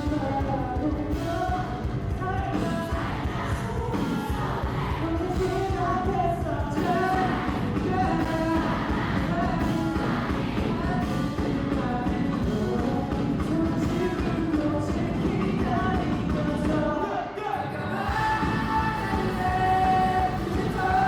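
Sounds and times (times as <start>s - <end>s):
live rock band playing: 0.0s - 17.0s, 18.0s - 21.0s
drums steady beat: 0.0s - 17.2s, 18.1s - 21.0s
person singing: 0.0s - 21.0s.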